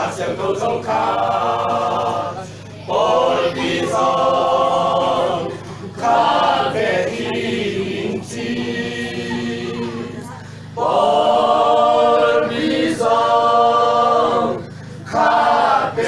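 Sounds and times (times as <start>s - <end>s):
men singing unaccompanied: 0.0s - 16.0s.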